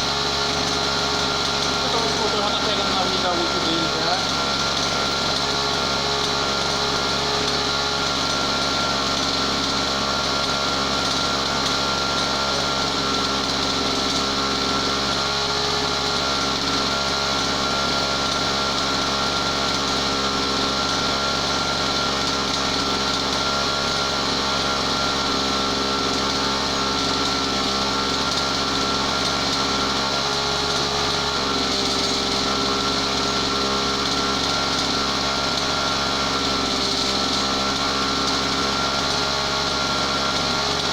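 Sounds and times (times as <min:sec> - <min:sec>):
brush cutter engine running: 0:00.0 - 0:40.9.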